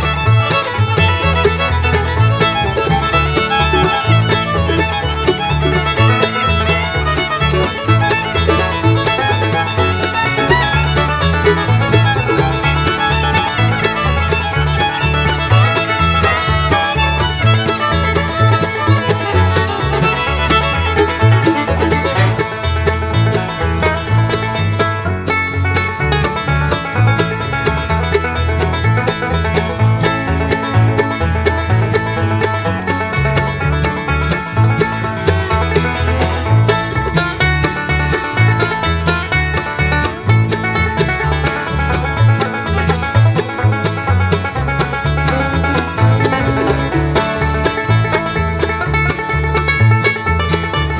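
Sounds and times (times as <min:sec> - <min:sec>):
banjo: 0:00.0 - 0:50.9
bass line: 0:00.0 - 0:50.9
fiddle: 0:00.0 - 0:50.9
guitar: 0:00.0 - 0:50.9.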